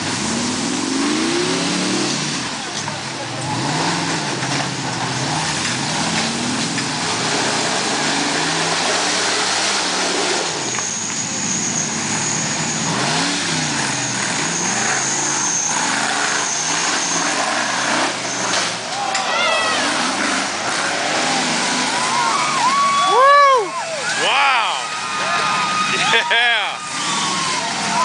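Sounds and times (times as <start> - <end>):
buggy engine revving: 0.0 - 28.0.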